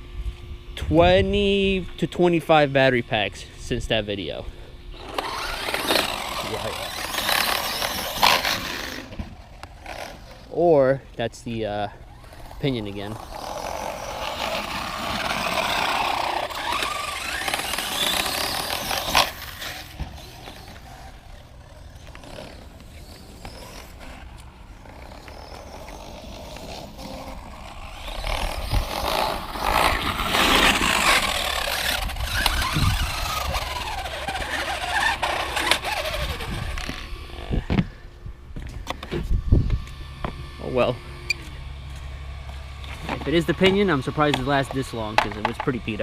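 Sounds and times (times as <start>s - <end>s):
electric motor whining: 4.0s - 10.6s, 11.4s - 46.0s.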